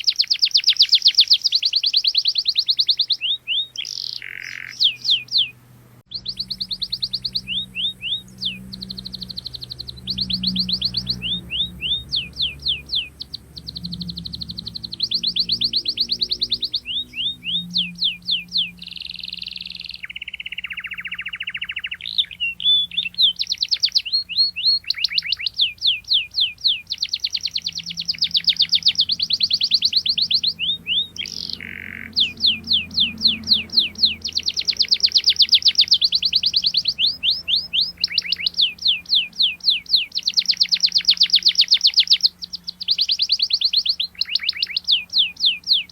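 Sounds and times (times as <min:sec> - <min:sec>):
canary singing chirp trills: 0:00.0 - 0:45.9.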